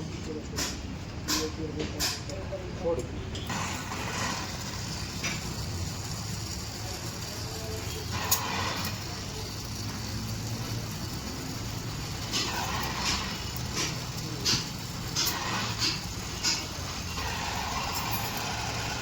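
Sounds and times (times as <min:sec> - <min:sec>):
engine idling: 0:02.9 - 0:19.0.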